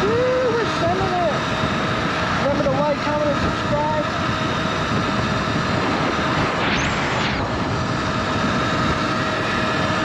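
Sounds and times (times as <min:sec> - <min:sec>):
electric motor whine: 0:00.0 - 0:10.0
wind rushing over microphone: 0:00.0 - 0:10.0.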